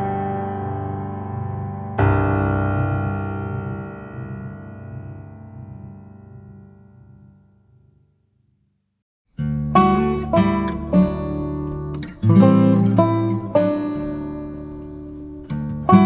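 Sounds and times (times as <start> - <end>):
keyboard chords: 0.0 - 7.9, 9.6 - 16.0.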